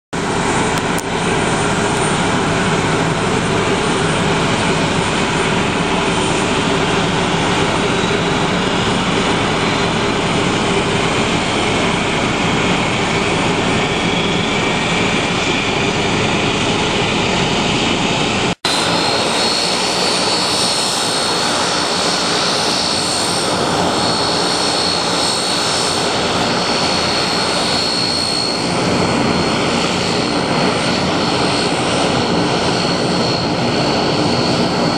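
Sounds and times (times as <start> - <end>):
high turbine whine: 0.2 - 34.9
turboprop engines running: 0.2 - 34.9.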